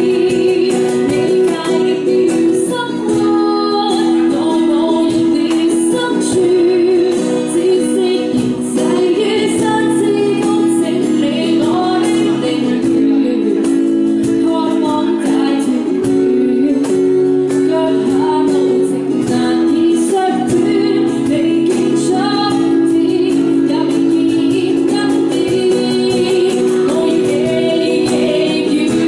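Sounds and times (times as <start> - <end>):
hand drum strokes: 0.0 - 29.0
strummed acoustic guitar: 0.0 - 29.0
woman singing pop ballad: 0.0 - 29.0.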